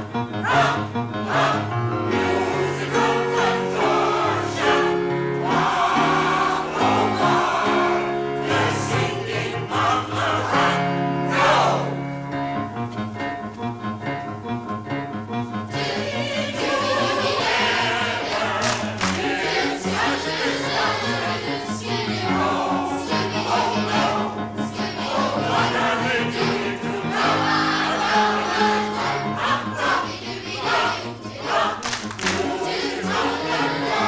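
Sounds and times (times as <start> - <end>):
instrumental accompaniment: 0.0 - 34.0
group of voices singing: 0.3 - 12.1, 15.7 - 34.0.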